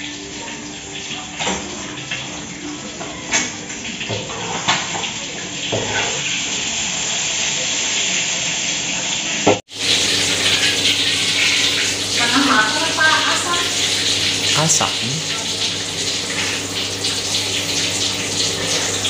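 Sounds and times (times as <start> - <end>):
oil sizzling in a wok: 0.0 - 19.0.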